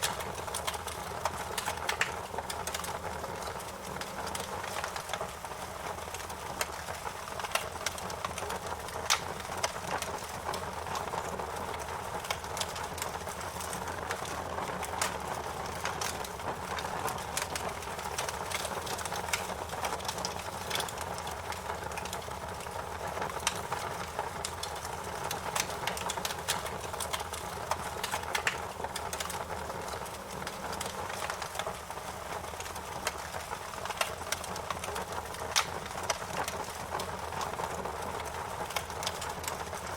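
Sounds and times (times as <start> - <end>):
fire crackling and popping: 0.0 - 39.9
wood fire rushing flames: 0.0 - 39.9.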